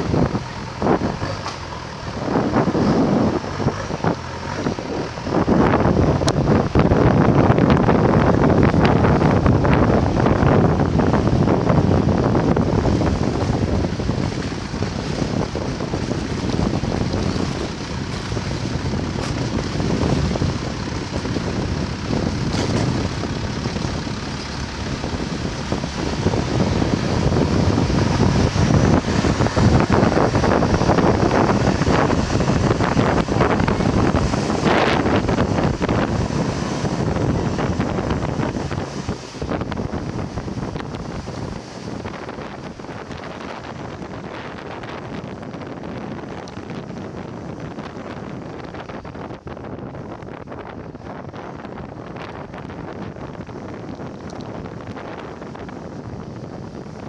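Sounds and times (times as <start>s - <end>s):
boat engine running: 0.0s - 57.0s
wind buffeting microphone: 0.0s - 57.0s.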